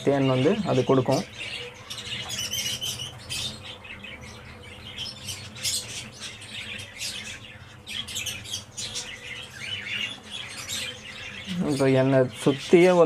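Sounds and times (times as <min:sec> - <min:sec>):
cage birds chirping: 0:00.0 - 0:13.0.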